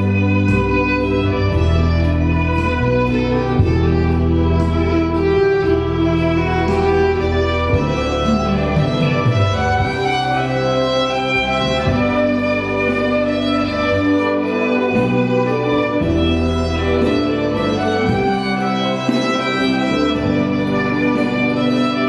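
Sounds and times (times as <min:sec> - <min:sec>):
sustained low accompaniment: 0:00.0 - 0:22.0
violin melody: 0:00.0 - 0:22.0.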